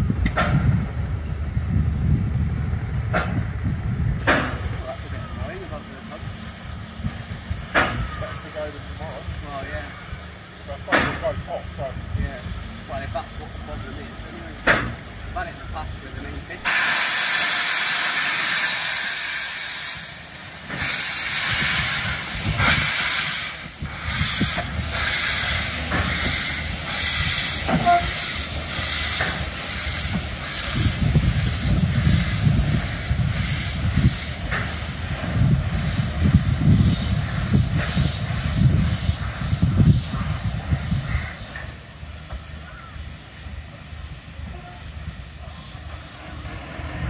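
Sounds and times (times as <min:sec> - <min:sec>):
steam locomotive exhaust chuffs: 0:00.0 - 0:47.0
train rumbling on rails: 0:00.0 - 0:47.0
steam hissing: 0:00.3 - 0:47.0.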